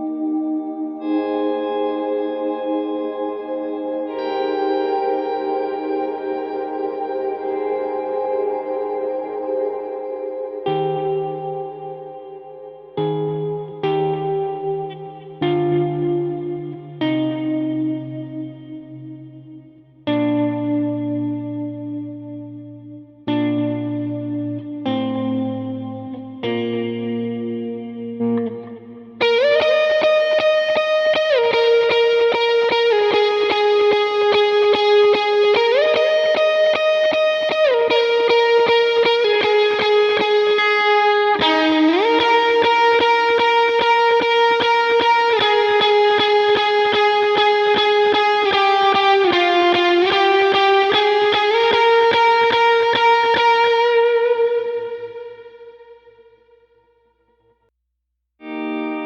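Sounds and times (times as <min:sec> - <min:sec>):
electric guitar sliding lead melody: 0:00.0 - 0:57.1, 0:58.4 - 0:59.0.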